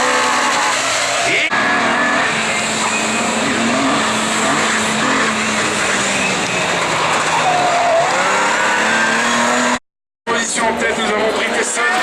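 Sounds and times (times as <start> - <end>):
race car engines running hard: 0.0 - 12.0.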